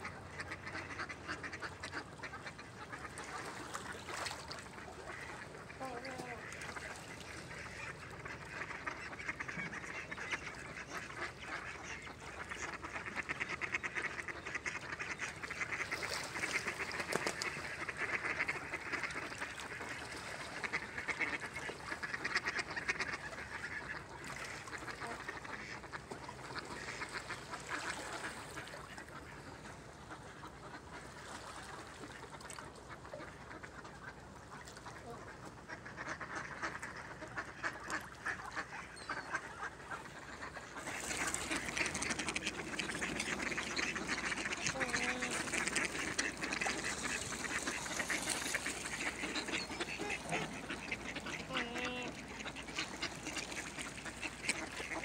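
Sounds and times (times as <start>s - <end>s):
ducks quacking: 0.0s - 55.0s.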